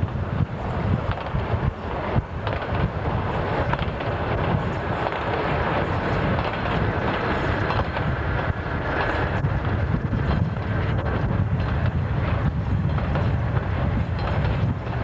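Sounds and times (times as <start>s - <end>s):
diesel locomotive engine: 0.0s - 15.0s
wheels clattering on rails: 0.0s - 15.0s.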